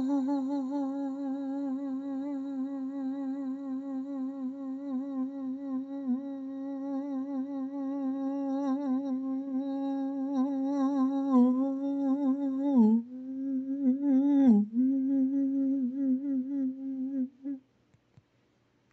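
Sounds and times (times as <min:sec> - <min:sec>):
person humming: 0:00.0 - 0:17.6.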